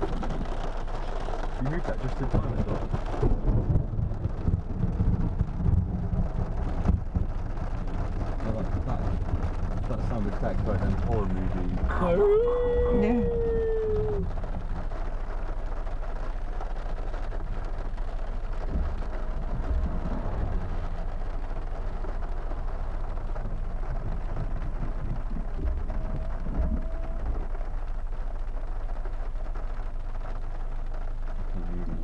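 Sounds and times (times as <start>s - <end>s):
rain falling on a car: 0.0s - 32.0s.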